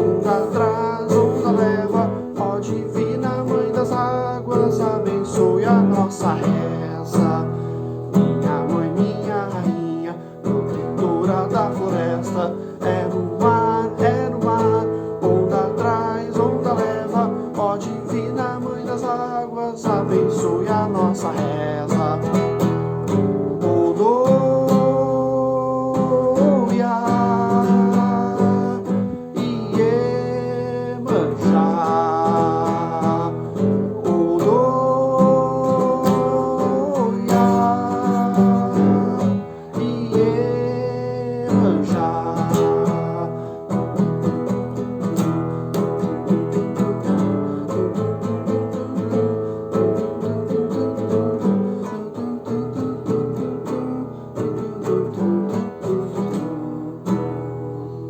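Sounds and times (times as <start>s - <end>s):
acoustic guitar strumming: 0.0s - 58.0s
man singing wordless notes: 0.0s - 58.0s.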